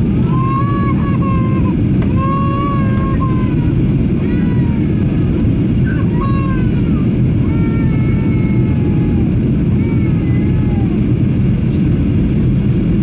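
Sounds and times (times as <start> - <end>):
airliner cabin roar: 0.0 - 13.0
baby crying: 0.2 - 11.0.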